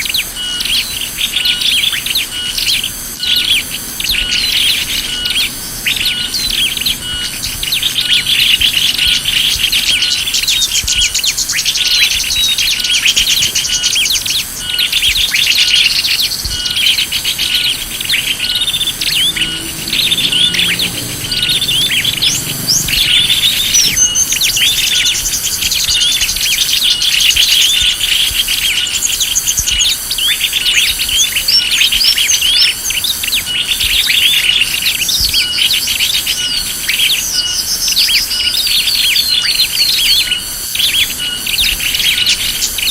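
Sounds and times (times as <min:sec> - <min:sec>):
insect-like trill pulsing: 0:00.0 - 0:42.9
songbirds chirping and twittering: 0:00.0 - 0:42.9.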